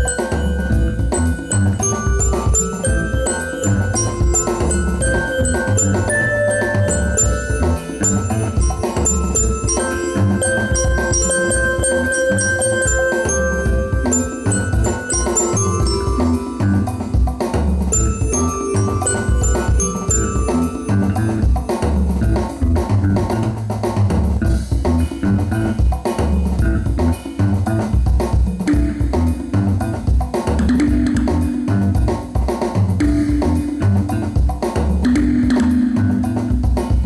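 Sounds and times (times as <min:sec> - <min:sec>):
band music: 0:00.0 - 0:27.9, 0:28.7 - 0:37.0
drum kit beat: 0:00.0 - 0:37.0.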